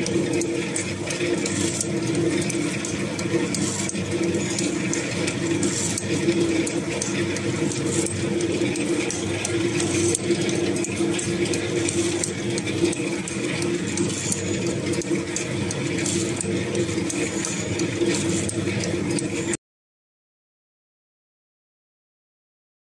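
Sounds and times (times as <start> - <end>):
machine humming: 0.0 - 19.6.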